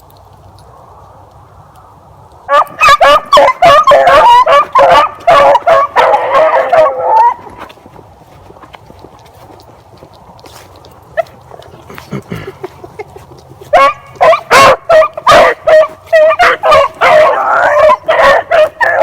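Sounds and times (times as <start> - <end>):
hounds baying: 2.5 - 9.6, 10.4 - 19.0.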